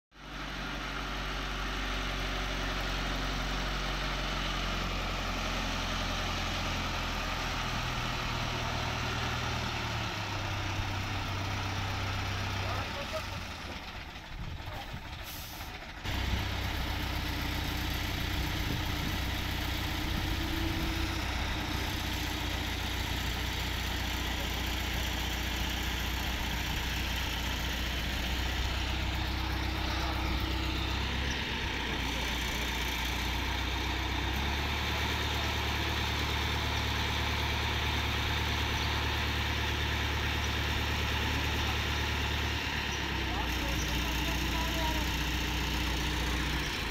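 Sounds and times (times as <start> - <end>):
diesel engine running: 0.2 - 46.9.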